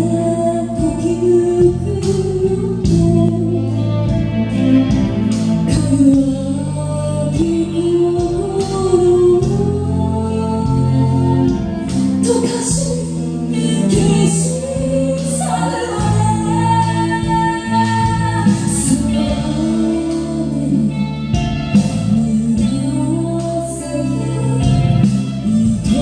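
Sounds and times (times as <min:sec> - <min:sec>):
electric guitar bending notes: 0:00.0 - 0:26.0
live rock band music: 0:00.0 - 0:26.0.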